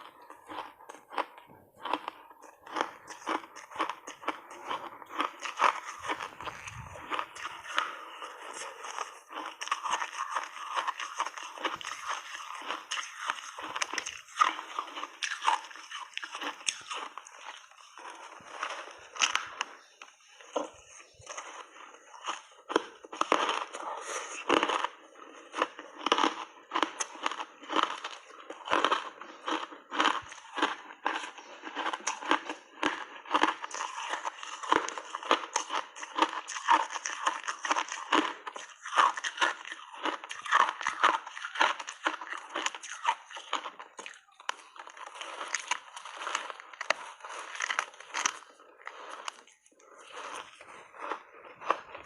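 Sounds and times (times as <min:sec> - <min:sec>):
ice being chewed: 0:00.0 - 0:52.0.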